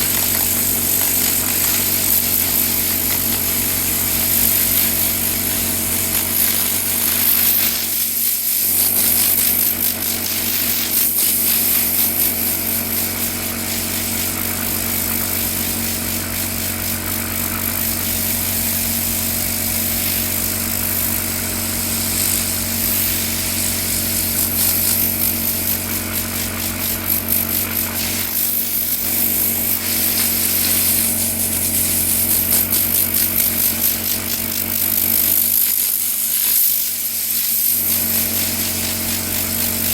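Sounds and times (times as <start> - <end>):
power tool motor running: 0.0 - 39.9.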